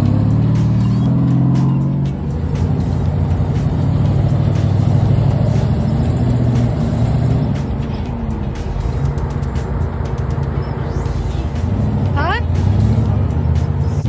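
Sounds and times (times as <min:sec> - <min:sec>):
background music: 0:00.0 - 0:14.0
vehicle engine running: 0:00.0 - 0:14.0.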